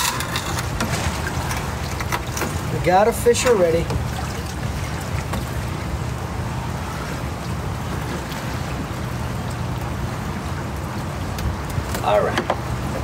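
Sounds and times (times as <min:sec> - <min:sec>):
water washing against kayak hull: 0:00.0 - 0:13.0.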